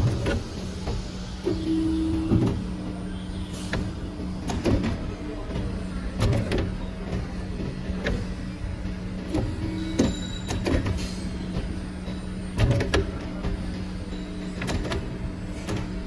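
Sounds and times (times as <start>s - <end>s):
steady motor hum: 0.0s - 16.0s.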